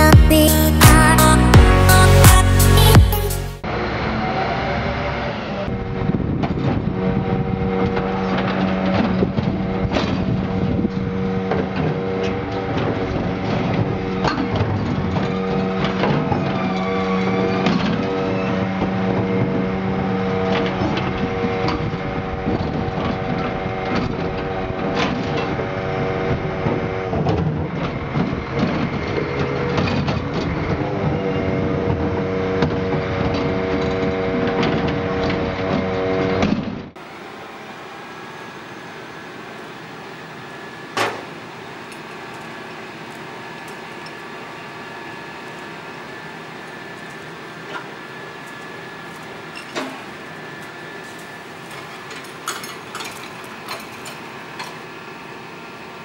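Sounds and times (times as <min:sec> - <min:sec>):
engine hum: 0:00.0 - 0:56.0
hydraulic bin lifter whine: 0:00.0 - 0:56.0.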